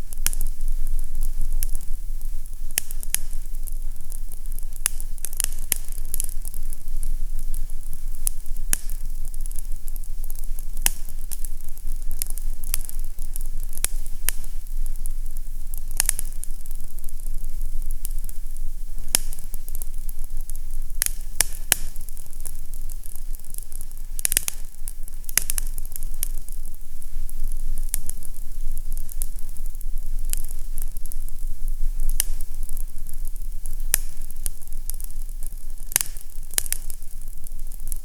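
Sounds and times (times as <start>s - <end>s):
fire crackling and popping: 0.0s - 38.0s
low fire rumble: 0.0s - 38.0s
soft hiss: 0.0s - 38.0s.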